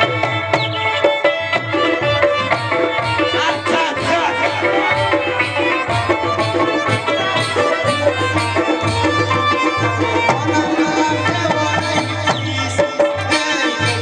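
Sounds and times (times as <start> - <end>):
hand drum beat: 0.0 - 14.0
harmonium: 0.0 - 14.0
plucked string melody: 0.0 - 14.0.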